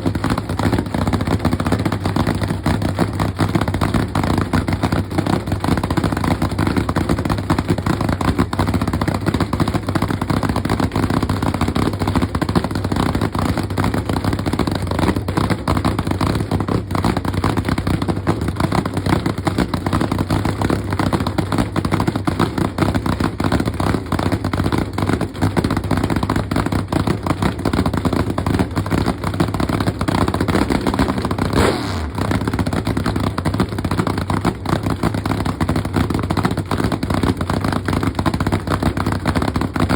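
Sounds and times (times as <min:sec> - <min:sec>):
loud engine running: 0:00.0 - 0:39.9.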